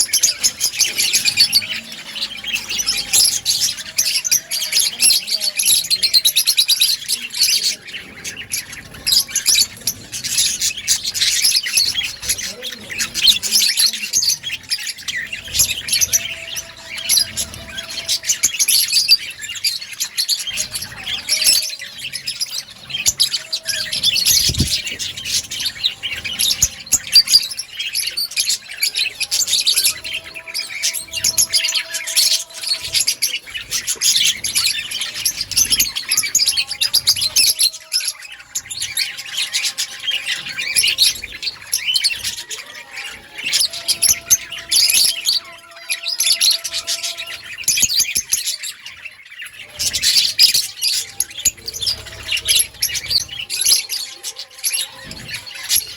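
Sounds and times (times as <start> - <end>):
budgerigars chirping and chattering: 0.0 - 55.9.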